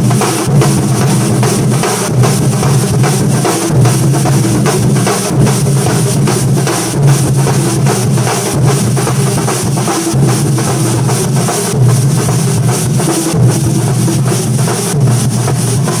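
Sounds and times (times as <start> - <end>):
drum ensemble playing fast beat: 0.0 - 16.0.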